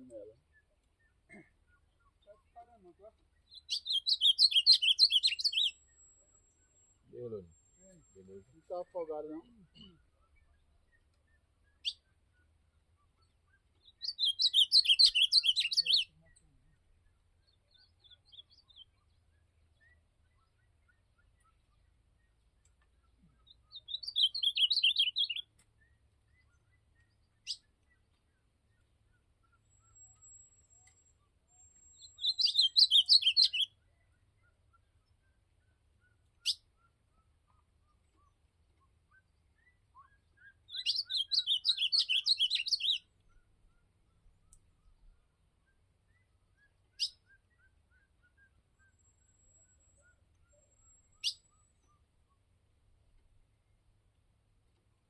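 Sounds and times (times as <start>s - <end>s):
bird singing warbled phrases: 0.0s - 52.7s.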